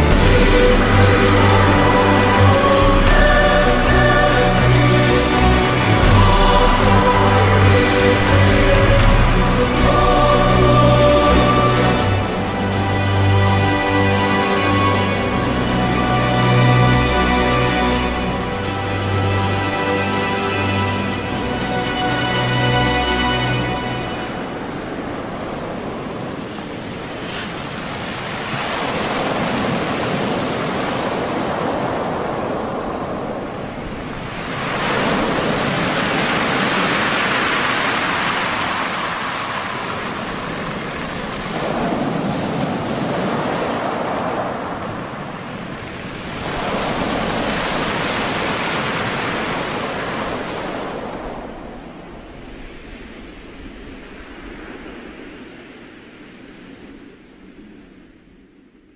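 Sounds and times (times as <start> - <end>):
big waves breaking: 0.0 - 58.9
wind: 0.0 - 58.9.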